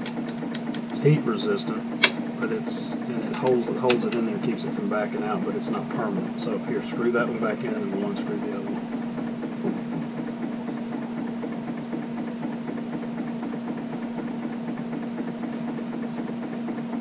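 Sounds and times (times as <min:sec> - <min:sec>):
motor hum with rapid flutter: 0:00.0 - 0:17.0.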